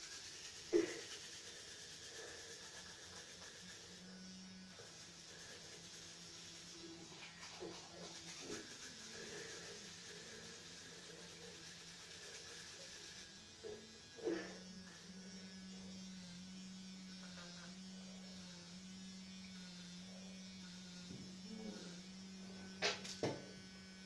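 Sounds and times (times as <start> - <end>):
electric toothbrush buzzing: 0.0 - 24.0.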